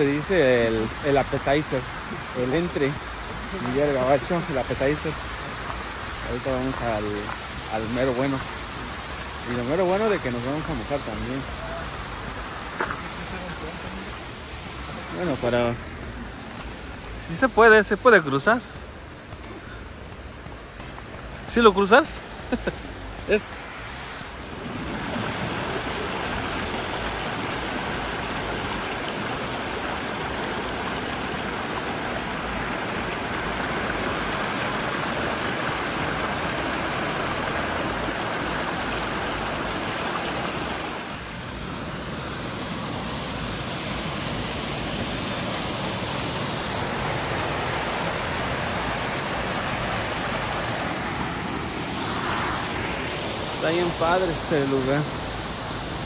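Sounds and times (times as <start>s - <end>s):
creek rushing over rocks: 0.0s - 56.0s.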